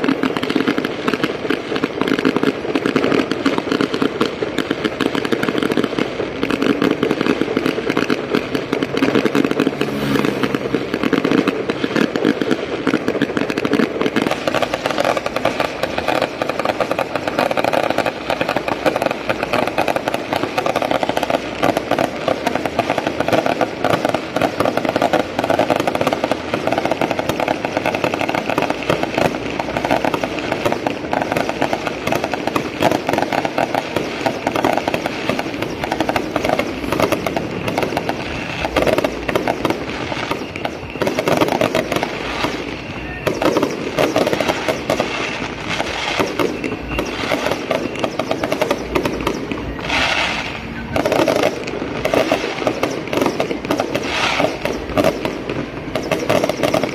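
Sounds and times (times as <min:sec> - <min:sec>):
firecrackers crackling: 0:00.0 - 0:56.9.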